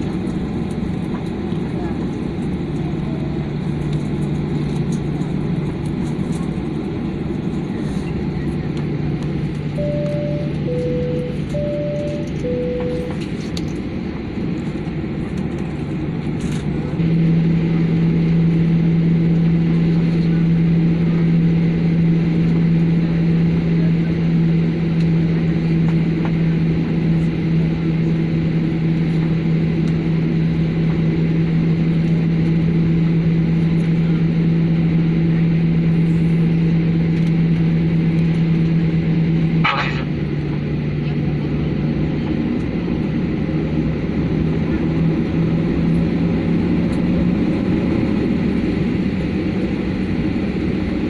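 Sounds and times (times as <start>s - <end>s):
airplane engines droning: 0.0s - 51.0s.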